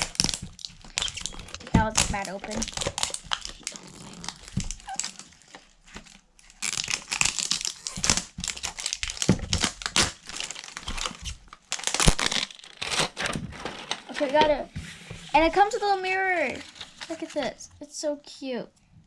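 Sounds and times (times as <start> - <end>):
wrapping crackling and tearing: 0.0 - 17.7.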